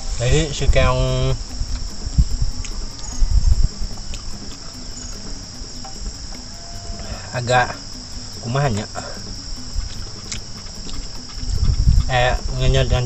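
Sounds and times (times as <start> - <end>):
dull low thumps: 0.0 - 13.0
high-pitched insect chorus: 0.0 - 13.0.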